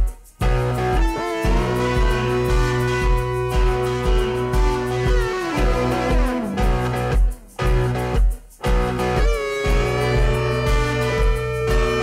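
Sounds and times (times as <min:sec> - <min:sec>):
instrumental music with held tones: 0:00.0 - 0:12.0
steady low beat: 0:00.0 - 0:12.0.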